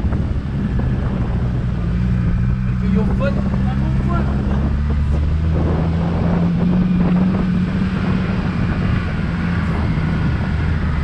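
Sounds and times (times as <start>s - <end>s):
car engine running: 0.0s - 11.0s
wind noise on microphone: 0.0s - 11.0s.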